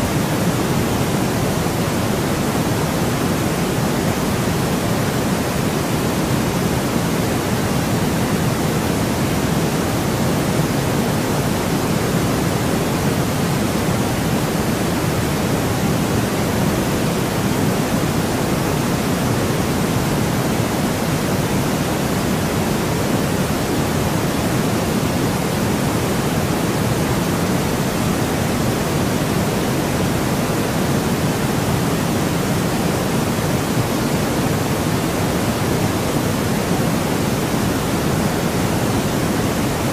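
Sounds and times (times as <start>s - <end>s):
low pink noise hiss: 0.0s - 39.9s.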